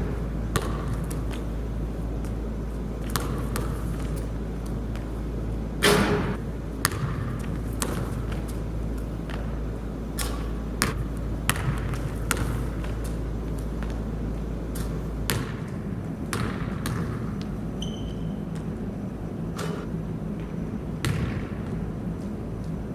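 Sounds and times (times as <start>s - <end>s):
basketball bouncing: 0.0s - 5.1s, 5.8s - 18.7s, 19.6s - 21.9s
steady low hum: 0.0s - 22.9s.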